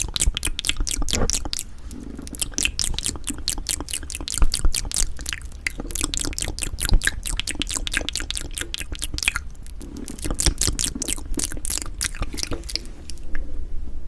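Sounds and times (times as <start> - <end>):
person chewing food: 0.0 - 13.5.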